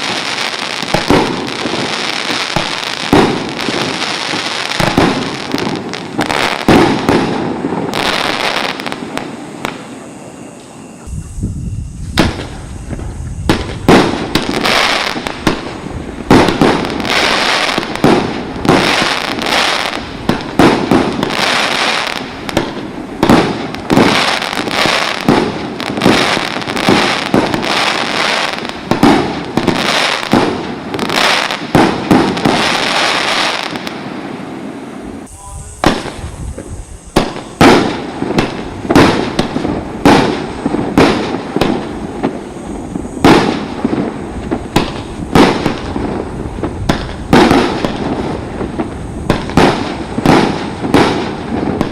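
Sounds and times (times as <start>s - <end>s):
firework bangs: 0.0s - 51.9s
firework crackling: 0.0s - 51.9s.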